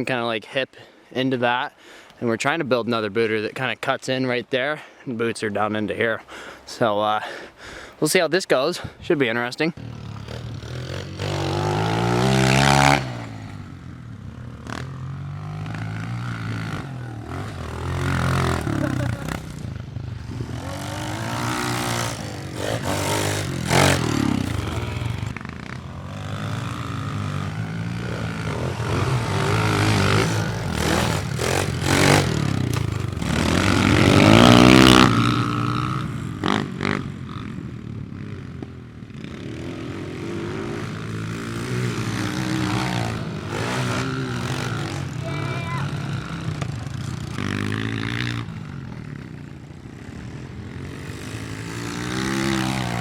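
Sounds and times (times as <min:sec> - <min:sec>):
pit bike engines revving: 0:09.2 - 0:53.0.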